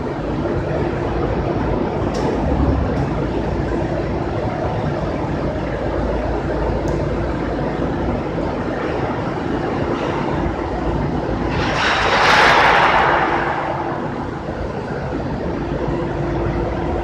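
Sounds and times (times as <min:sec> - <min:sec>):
machine drone and rumble: 0:00.0 - 0:17.0.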